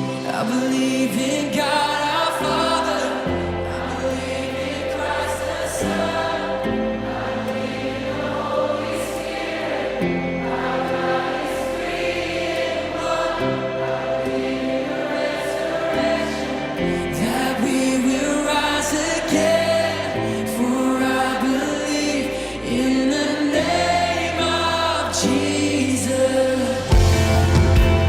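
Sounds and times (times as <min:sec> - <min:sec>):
choir singing slow choral song: 0:00.0 - 0:28.0.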